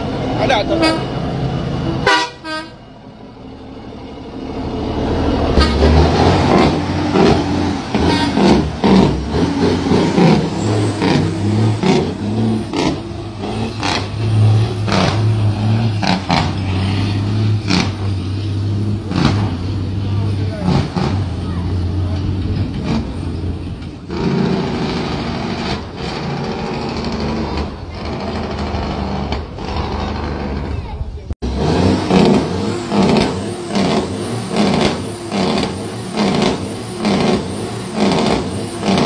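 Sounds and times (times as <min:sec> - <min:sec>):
diesel truck engine accelerating: 0:00.0 - 0:39.0.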